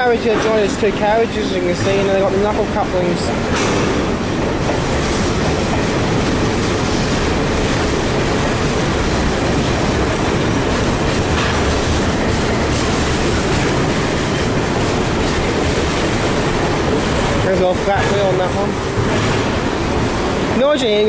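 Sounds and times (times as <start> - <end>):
clickety-clack over rail joints: 0.0 - 20.6
steel wheels rumbling on rail: 0.0 - 21.0.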